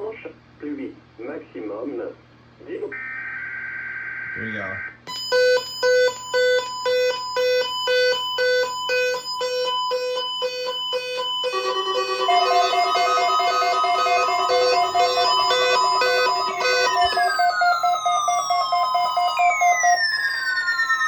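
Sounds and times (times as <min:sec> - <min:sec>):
overlapping alarm tones: 0:03.0 - 0:21.0
pulsed electronic alarm beeps: 0:03.0 - 0:21.0.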